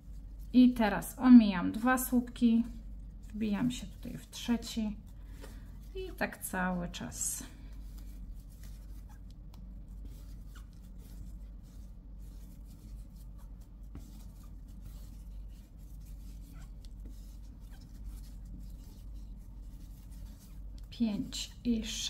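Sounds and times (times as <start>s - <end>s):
cord rustling through stitches: 0.0s - 22.0s
steady low hum: 0.0s - 22.0s.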